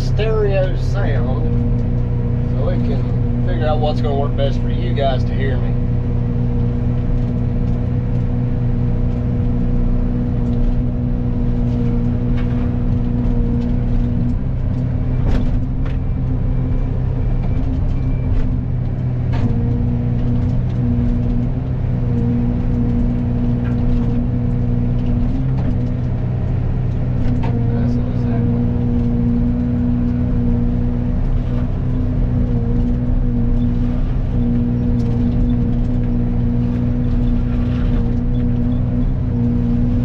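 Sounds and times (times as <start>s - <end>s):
excavator diesel engine running: 0.0s - 40.0s
hydraulic mulcher hum: 0.0s - 40.0s.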